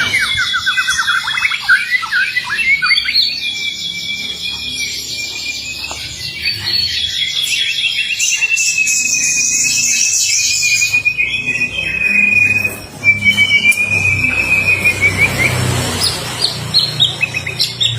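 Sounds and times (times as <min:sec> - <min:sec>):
bird whistling song: 0:00.0 - 0:17.9.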